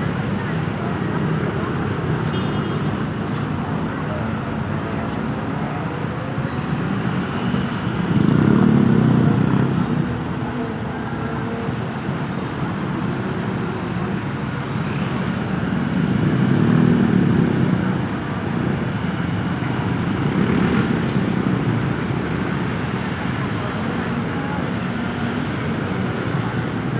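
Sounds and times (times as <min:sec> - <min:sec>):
vehicles driving past: 0:02.9 - 0:26.9.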